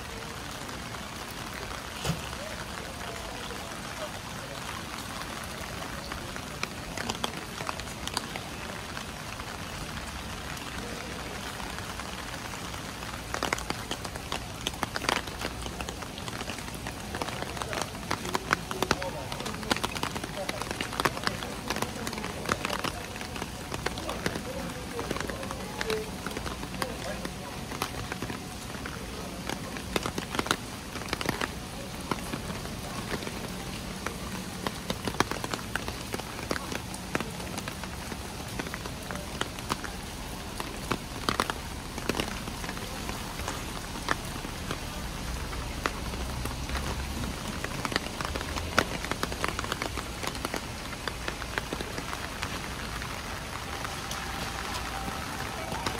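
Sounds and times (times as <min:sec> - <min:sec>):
sharp taps of raindrops: 0:00.0 - 0:55.9
steady rain: 0:00.0 - 0:55.9.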